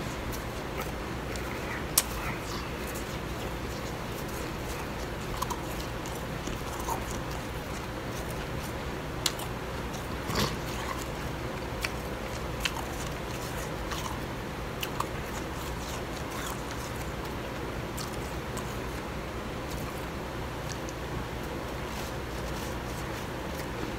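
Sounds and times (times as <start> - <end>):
steady background hiss: 0.0 - 23.9
crunching ice being eaten: 0.1 - 23.9.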